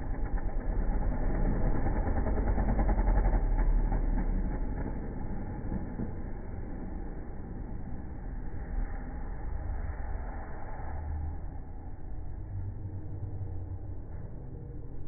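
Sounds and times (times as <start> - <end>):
motocross bike engines racing: 0.0 - 15.0.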